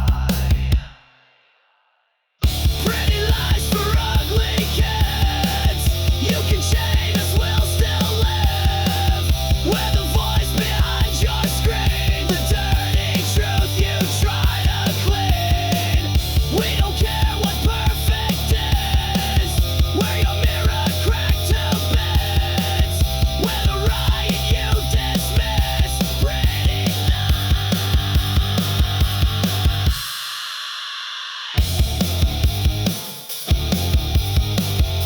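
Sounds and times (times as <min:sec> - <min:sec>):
grunge rock music: 0:00.0 - 0:01.0, 0:02.4 - 0:35.0.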